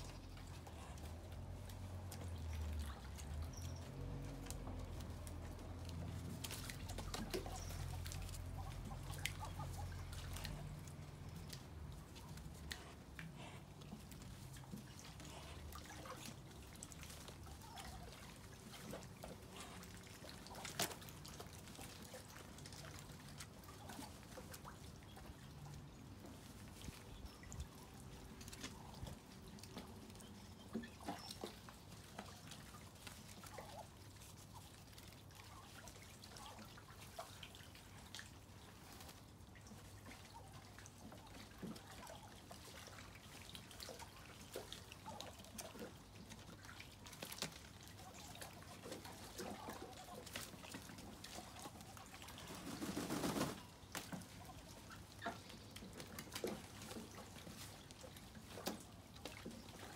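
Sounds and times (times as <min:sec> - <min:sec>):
rainwater trickling and dripping: 0:00.0 - 0:59.9.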